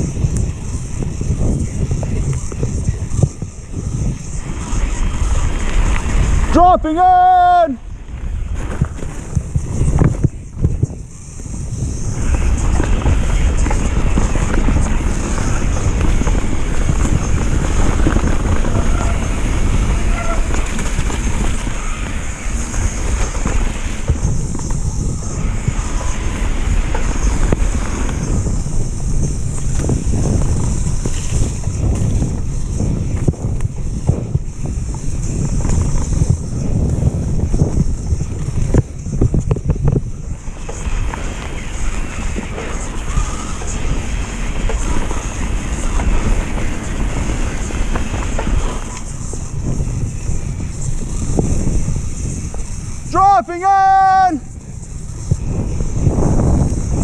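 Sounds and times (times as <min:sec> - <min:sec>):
mountain bike rumbling and rattling: 0:00.0 - 0:57.0
wind buffeting microphone: 0:00.0 - 0:57.0.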